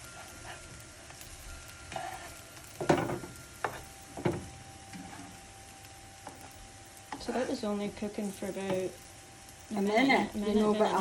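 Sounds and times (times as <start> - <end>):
scones sizzling in a pan: 0.0 - 11.0.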